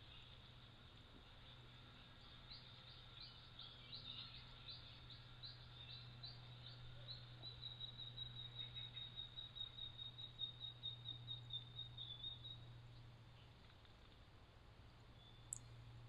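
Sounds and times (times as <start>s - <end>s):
bird chirping: 1.4s - 14.2s, 15.1s - 15.9s.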